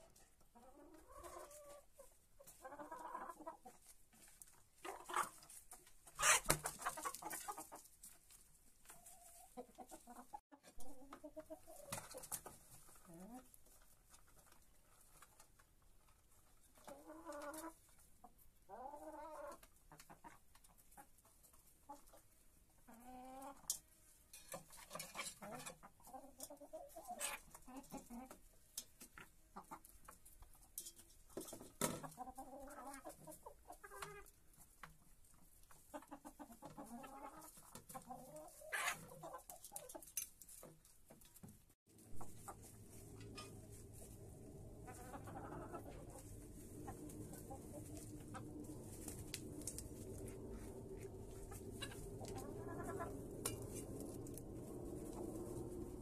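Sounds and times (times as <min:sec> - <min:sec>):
hens clucking: 0:00.0 - 0:15.6, 0:16.2 - 0:23.7, 0:24.6 - 0:30.7, 0:31.4 - 0:41.3, 0:42.1 - 0:56.0.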